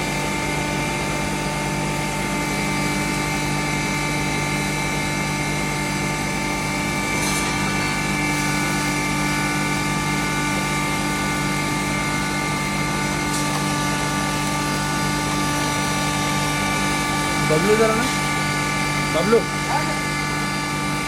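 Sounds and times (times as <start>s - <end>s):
grinding machine humming and whining: 0.0s - 21.0s.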